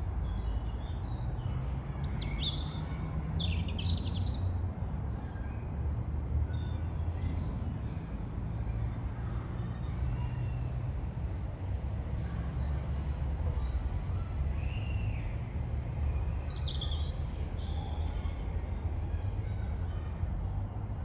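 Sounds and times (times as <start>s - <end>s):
road traffic rumble: 0.0s - 21.0s
songbirds chirping and trilling: 0.0s - 21.0s.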